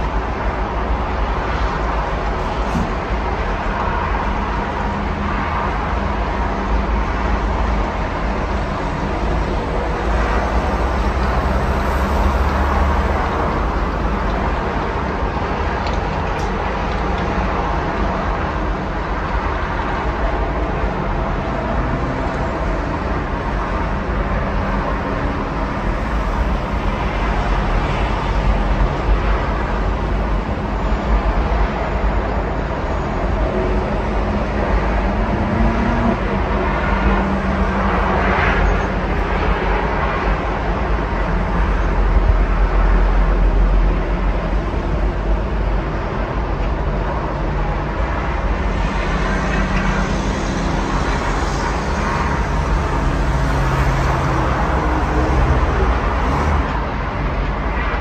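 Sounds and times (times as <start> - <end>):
cars and lorries passing: 0.0 - 58.0.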